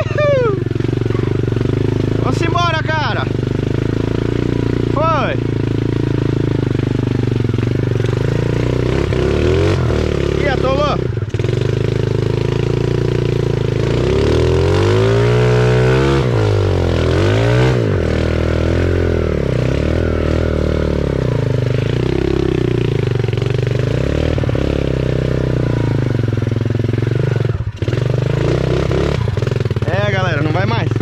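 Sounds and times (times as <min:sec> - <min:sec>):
small dirt bike engine revving: 0:00.0 - 0:31.0.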